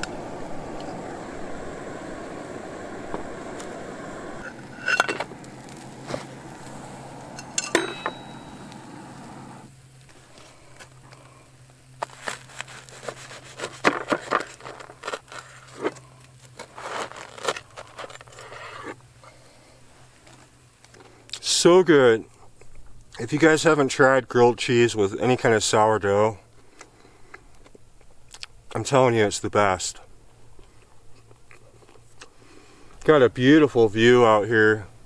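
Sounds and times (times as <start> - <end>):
camp stove burner hissing: 0.0 - 27.9, 32.0 - 35.0.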